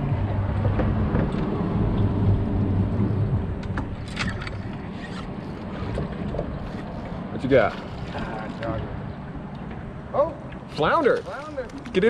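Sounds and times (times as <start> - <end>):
low engine hum: 0.0 - 10.1.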